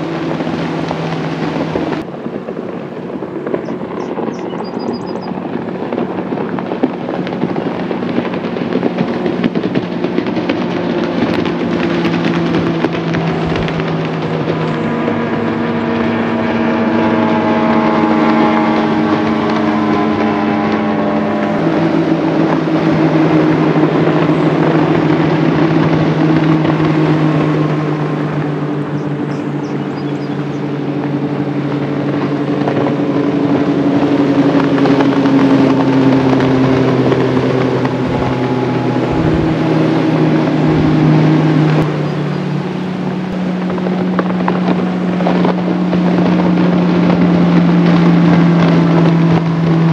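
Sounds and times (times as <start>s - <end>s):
outboard motor boats passing: 0.0s - 49.9s.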